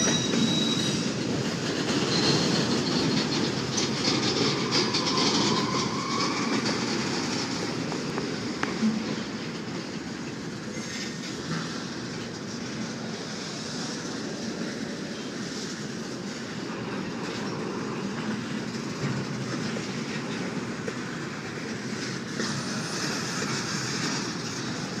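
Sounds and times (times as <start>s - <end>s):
freight train wheels on rail: 0.0s - 25.0s.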